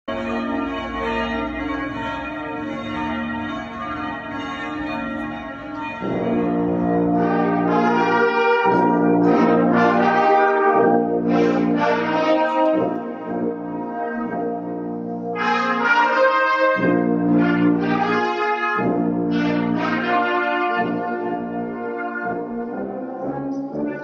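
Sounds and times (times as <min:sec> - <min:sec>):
church bells ringing: 0:00.0 - 0:24.0
brass ensemble playing chords: 0:00.1 - 0:24.0.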